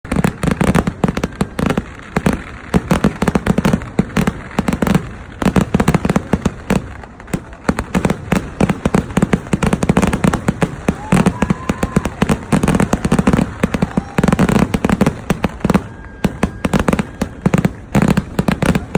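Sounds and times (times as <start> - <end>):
firecracker bangs: 0.0 - 18.9.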